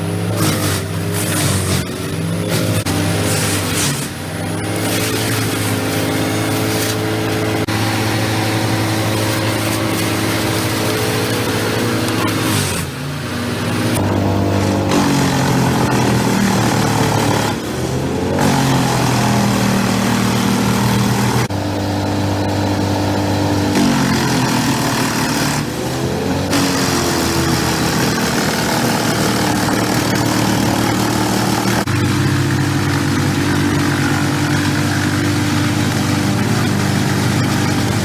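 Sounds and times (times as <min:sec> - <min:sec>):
wood chipper engine running: 0:00.0 - 0:38.0.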